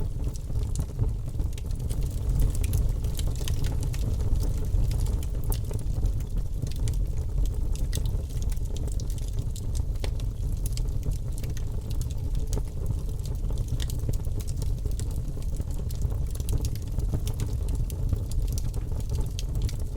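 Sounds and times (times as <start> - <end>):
fire crackling and popping: 0.0 - 19.9
low rumble of fire: 0.0 - 19.9.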